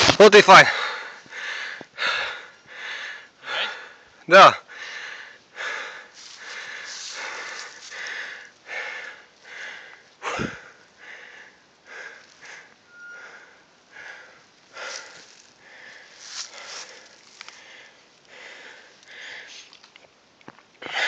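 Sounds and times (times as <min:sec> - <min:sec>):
person panting: 0:00.7 - 0:04.0, 0:04.7 - 0:19.7.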